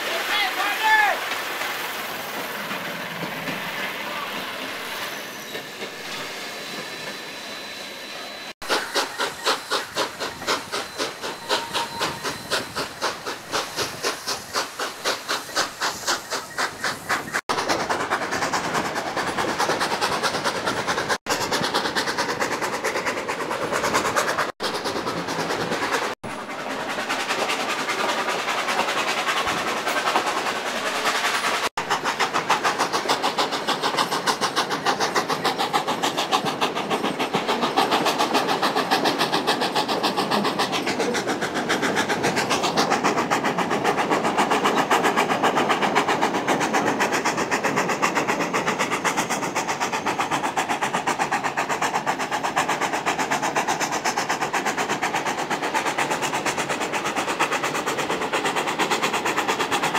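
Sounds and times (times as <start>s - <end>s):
steam locomotive chuffing: 0.0s - 59.9s
train cars rolling and clicking on rails: 0.0s - 59.9s.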